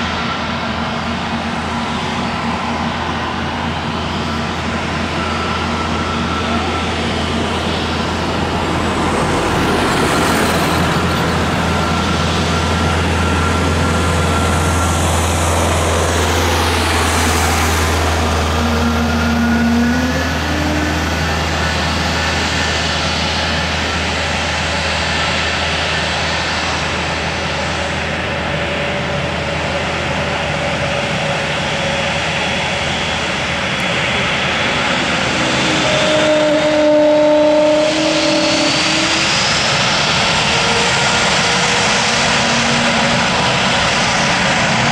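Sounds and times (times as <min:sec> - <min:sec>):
jet engine whine: 0:00.0 - 0:44.9
jet engines rumbling: 0:00.0 - 0:44.9.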